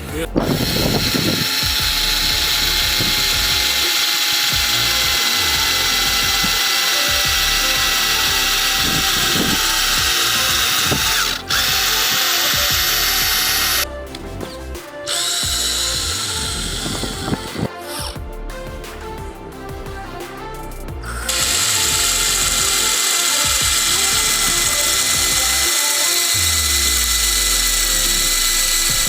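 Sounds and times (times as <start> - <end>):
cordless drill motor whine: 0.4 - 13.9, 15.1 - 18.2, 21.0 - 29.0.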